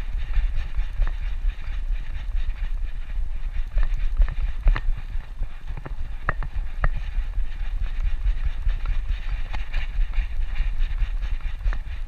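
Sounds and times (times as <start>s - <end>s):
camera jostling rumble: 0.0s - 12.0s.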